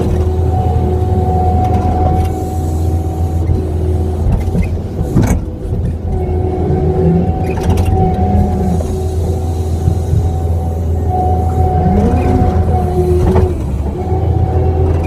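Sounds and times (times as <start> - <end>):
diesel engine running: 0.0 - 15.0
steady whine: 0.0 - 15.0.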